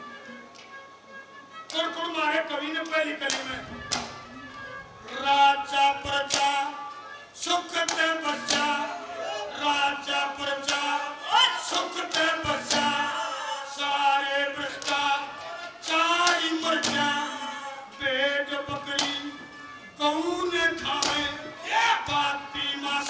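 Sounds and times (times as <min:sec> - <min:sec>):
musical accompaniment: 0:00.0 - 0:23.0
man singing into microphones: 0:01.5 - 0:23.0.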